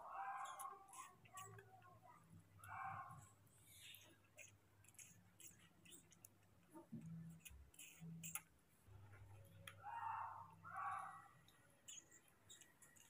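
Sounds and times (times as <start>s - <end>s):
small wet eating clicks: 0.1s - 13.0s.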